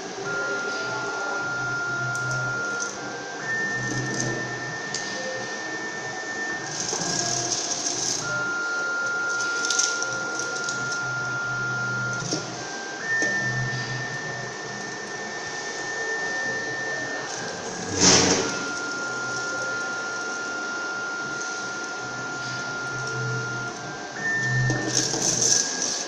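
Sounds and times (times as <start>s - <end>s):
motor whining: 0.0s - 26.0s.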